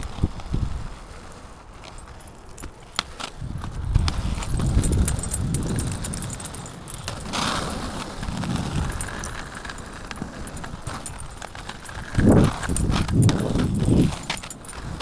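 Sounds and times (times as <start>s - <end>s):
skate wheels rolling on asphalt: 0.0s - 15.0s.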